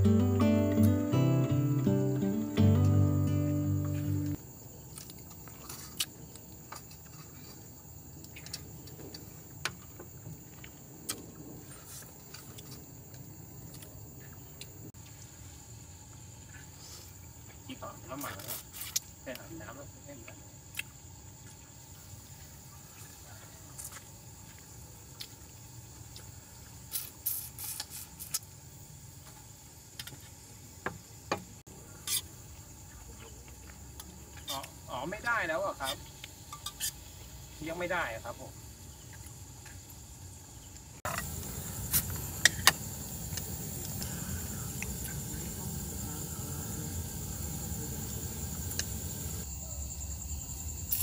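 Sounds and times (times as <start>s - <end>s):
faint hiss: 0.0s - 4.6s, 7.1s - 33.3s, 34.3s - 39.2s, 39.8s - 51.0s
crickets chirring: 0.0s - 51.0s
high insect trill: 0.0s - 51.0s.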